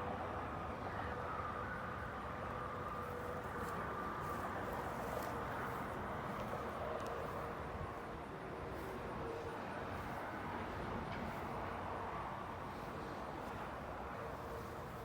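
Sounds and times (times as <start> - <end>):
distant highway traffic: 0.0 - 15.0.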